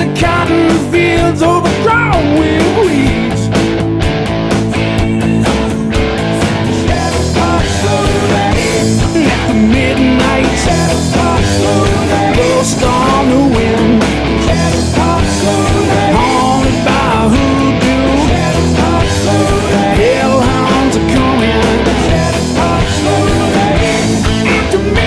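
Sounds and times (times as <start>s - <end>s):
person singing: 0.0s - 3.5s, 4.7s - 25.0s
drums: 0.0s - 25.0s
electric guitar: 0.0s - 25.0s.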